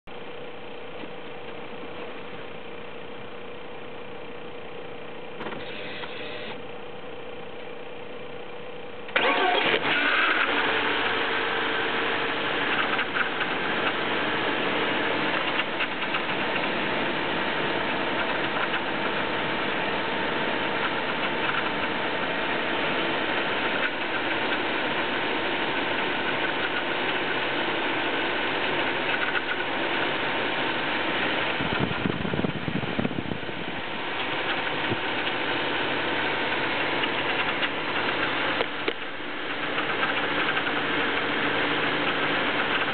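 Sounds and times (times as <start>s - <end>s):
metallic engine noise: 0.1s - 42.9s
car engine starting and idling: 0.2s - 42.9s.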